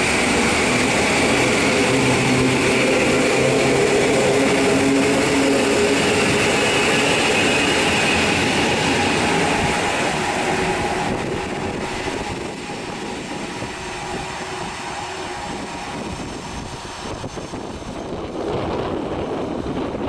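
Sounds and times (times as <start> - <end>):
electric train motor whine: 0.0 - 19.9
approaching train rumble: 0.0 - 20.0.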